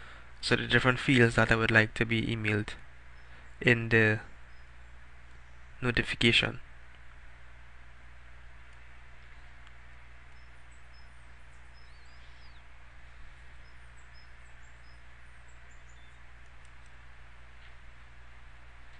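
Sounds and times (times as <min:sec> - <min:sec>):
microphone hiss and hum: 0:00.0 - 0:18.9.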